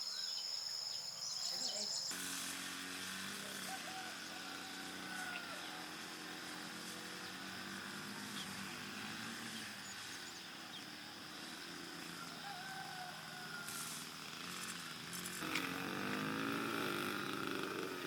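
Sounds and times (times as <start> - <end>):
engine running: 2.1 - 18.0.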